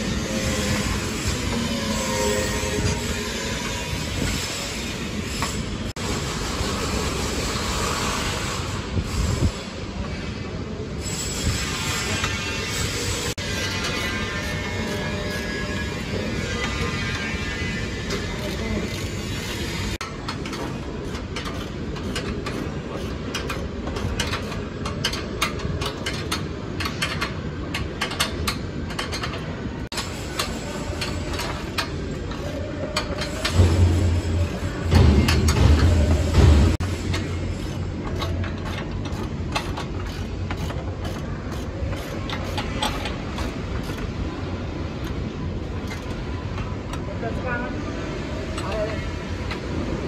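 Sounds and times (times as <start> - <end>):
steady background noise: 0.0 - 50.0.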